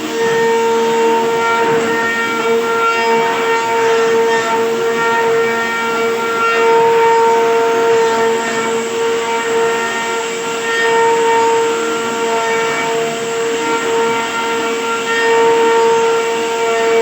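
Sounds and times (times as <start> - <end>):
woodworking machine whining: 0.0 - 17.0.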